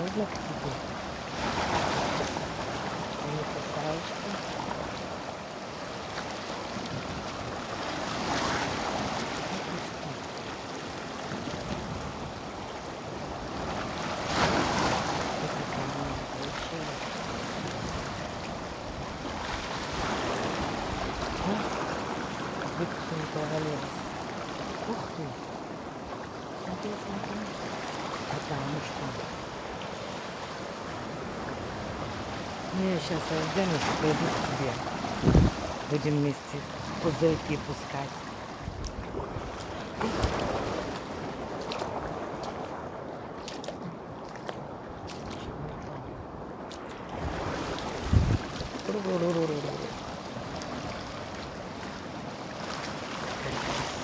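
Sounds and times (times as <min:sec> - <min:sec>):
sea waves washing against rocks: 0:00.0 - 0:54.0.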